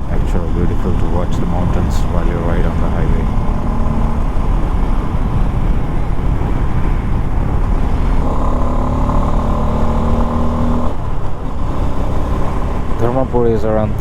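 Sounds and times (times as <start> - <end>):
engine drone: 0.0 - 14.0
wind and road noise rushing: 0.0 - 14.0.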